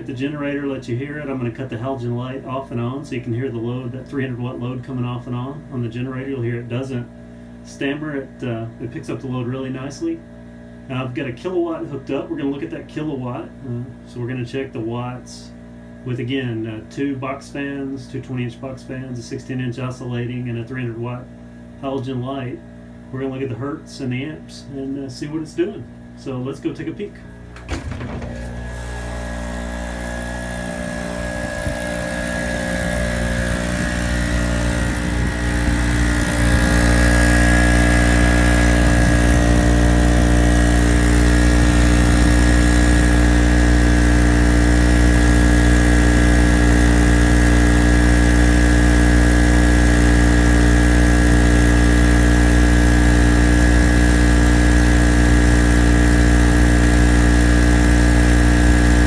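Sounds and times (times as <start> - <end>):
generator running steadily: 0.0 - 59.0.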